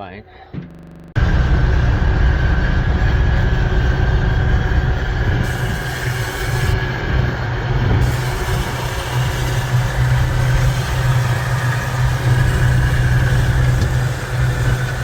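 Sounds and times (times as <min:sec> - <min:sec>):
diesel engine droning: 0:00.7 - 0:15.0.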